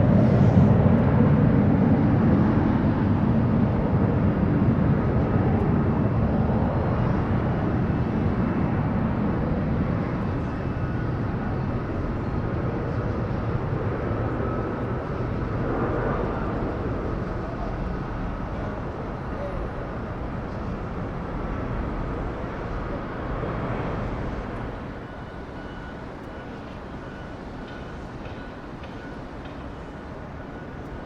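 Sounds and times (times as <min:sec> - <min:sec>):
jet engines rumbling on takeoff: 0:00.0 - 0:31.0.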